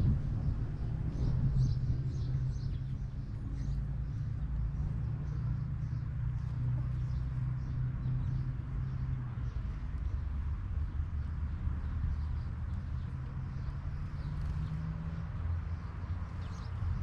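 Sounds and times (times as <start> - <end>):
birds chirping: 0.8 - 17.0.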